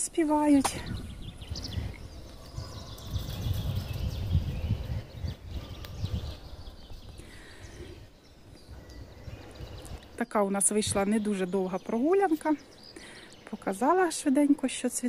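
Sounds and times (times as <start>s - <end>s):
birds singing faintly: 0.0s - 15.0s.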